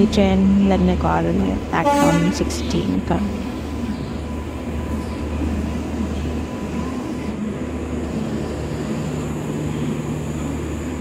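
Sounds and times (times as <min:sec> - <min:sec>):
steady low hum: 0:00.0 - 0:11.0
train rolling with low rumble: 0:00.0 - 0:11.0.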